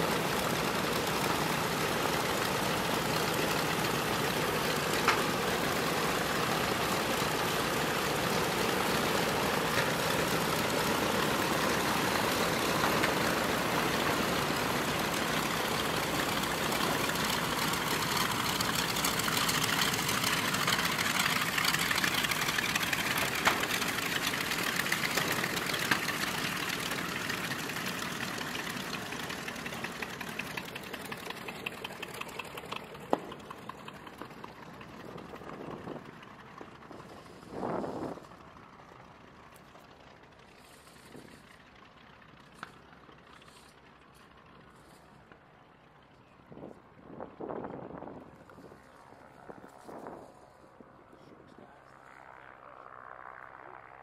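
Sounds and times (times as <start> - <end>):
aircraft radial engines running: 0.0 - 54.0.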